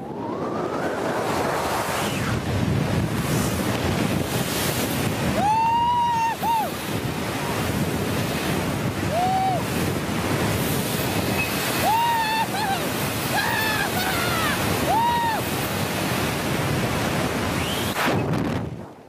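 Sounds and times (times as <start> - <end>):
wind roaring over helmet: 0.0 - 19.0.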